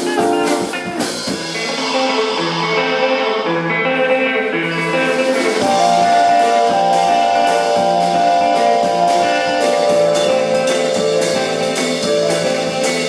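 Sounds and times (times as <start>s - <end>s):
drum and cymbal hits: 0.0s - 13.0s
electric guitars: 0.0s - 13.0s
keyboard holding notes: 0.0s - 13.0s.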